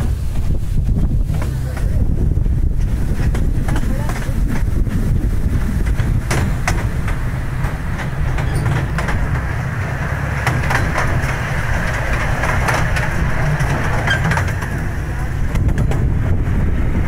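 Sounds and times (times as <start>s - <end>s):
train wheels rumbling: 0.0s - 17.0s
wheels clacking on rails: 0.0s - 17.0s.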